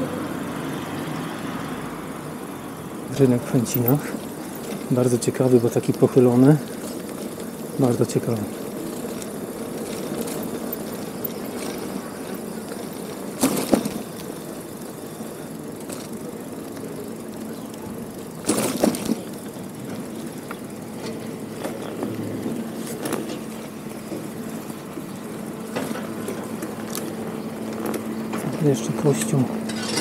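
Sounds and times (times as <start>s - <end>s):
bicycle riding rumble: 0.0s - 30.0s
bicycle rattles: 2.2s - 30.0s.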